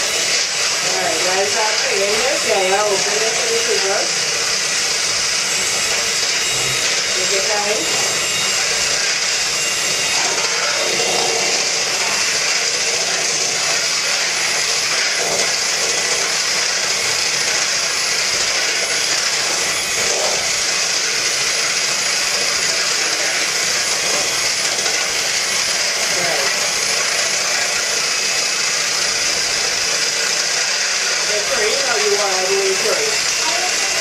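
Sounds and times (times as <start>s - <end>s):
electric hand mixer whisking: 0.0s - 34.0s.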